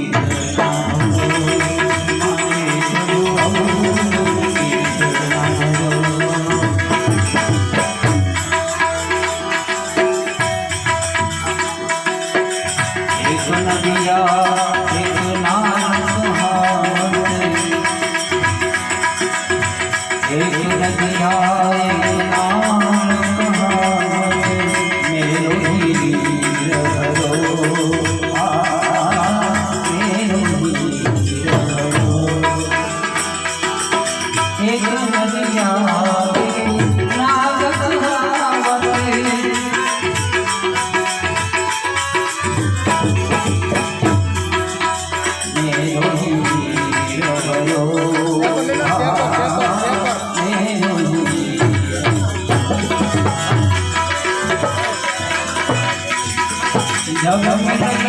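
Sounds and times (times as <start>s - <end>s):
harmonium chords: 0.0s - 58.0s
man singing: 0.0s - 58.0s
rattling percussion beat: 0.0s - 58.0s.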